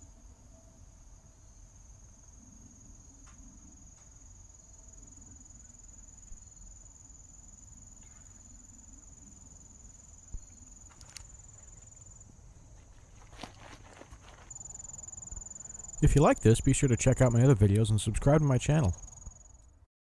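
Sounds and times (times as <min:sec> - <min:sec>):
crickets trilling: 0:00.0 - 0:19.8.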